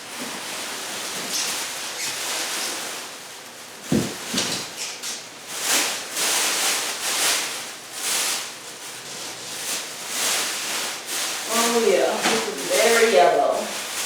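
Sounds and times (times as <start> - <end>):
packaging rustling and crinkling: 0.1 - 14.0.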